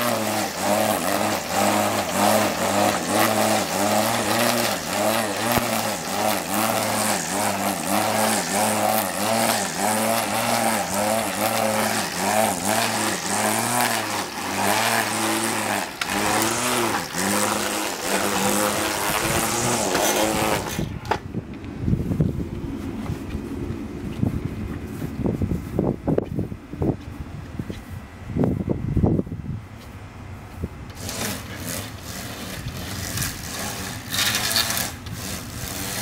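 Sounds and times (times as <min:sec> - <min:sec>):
string trimmer cutting grass: 0:00.0 - 0:26.4, 0:30.9 - 0:36.0.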